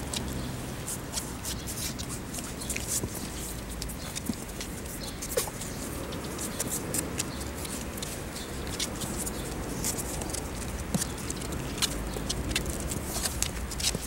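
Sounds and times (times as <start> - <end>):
puppy claws scratching cardboard: 0.0 - 14.0.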